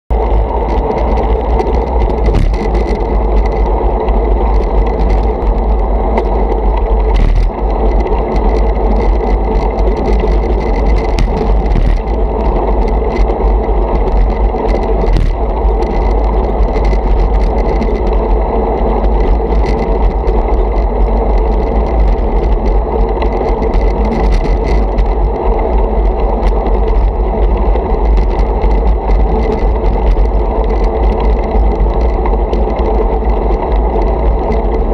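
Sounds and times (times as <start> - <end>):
bike clicks and rattles: 0.1 - 34.9
wind and road rumble: 0.1 - 34.9.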